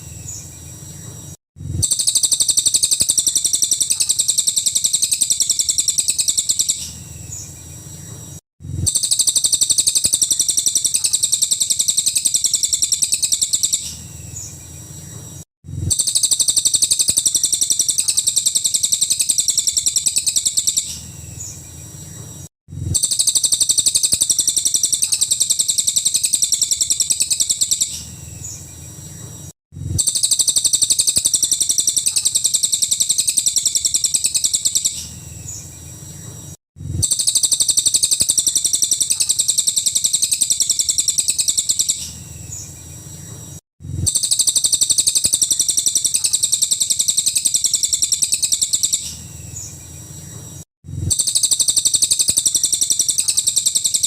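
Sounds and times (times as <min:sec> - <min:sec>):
songbird trilling: 0:01.8 - 0:08.2, 0:08.9 - 0:15.2, 0:15.9 - 0:22.2, 0:23.0 - 0:29.3, 0:30.0 - 0:36.3, 0:37.0 - 0:42.9, 0:44.1 - 0:50.0, 0:51.1 - 0:54.0.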